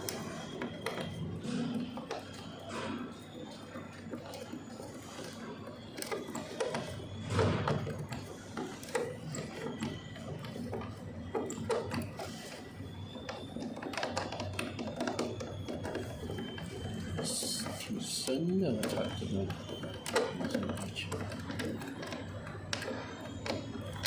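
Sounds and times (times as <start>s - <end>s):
small parts and tools clicking: 0.0s - 24.0s.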